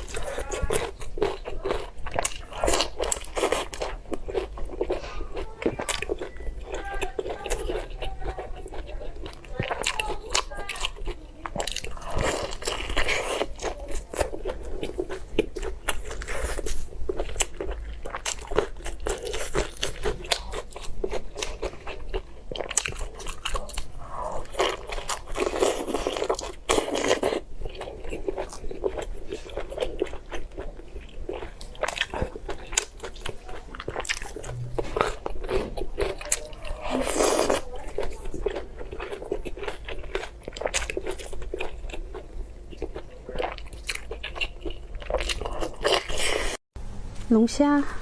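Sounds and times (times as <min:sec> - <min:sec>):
person chewing crunchy meat: 0:00.0 - 0:46.6.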